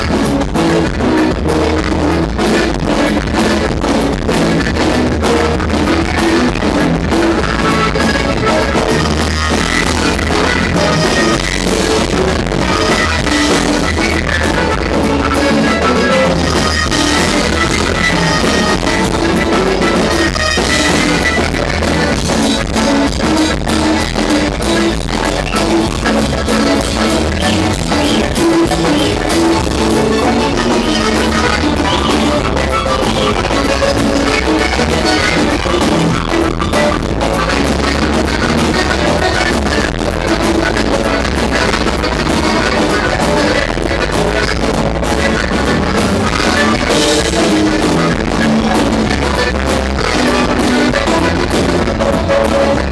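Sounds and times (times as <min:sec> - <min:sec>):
accordion: 0:00.0 - 0:52.9
bass: 0:00.0 - 0:52.9
drum kit: 0:00.0 - 0:52.9
guitar: 0:00.0 - 0:52.9.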